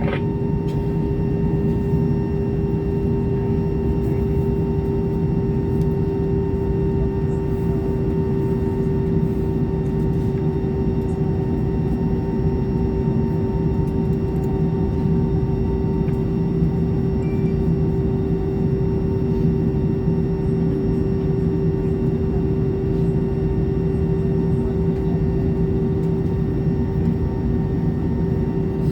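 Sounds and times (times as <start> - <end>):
aircraft cabin drone: 0.0 - 28.9
constant hum: 0.0 - 28.9.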